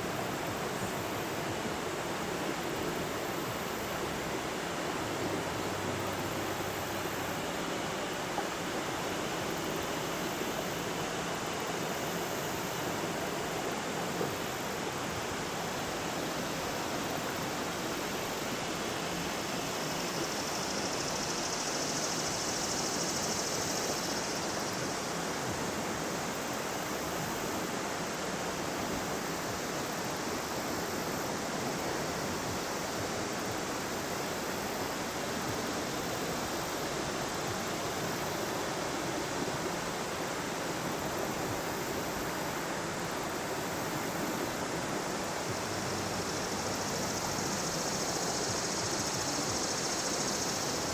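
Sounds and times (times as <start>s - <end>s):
river water rushing: 0.0s - 23.7s, 24.4s - 50.9s.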